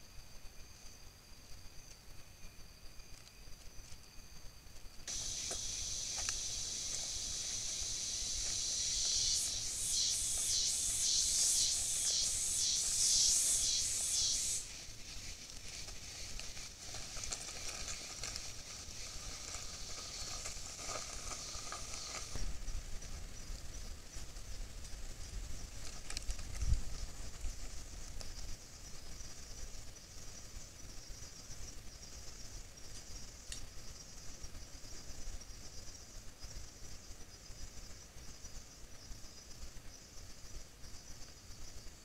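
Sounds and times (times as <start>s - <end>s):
insect chorus buzzing: 0.0s - 42.0s.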